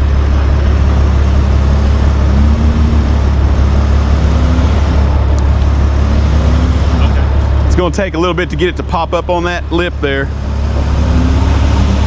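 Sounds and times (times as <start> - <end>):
van engine revving under load: 0.0 - 12.0.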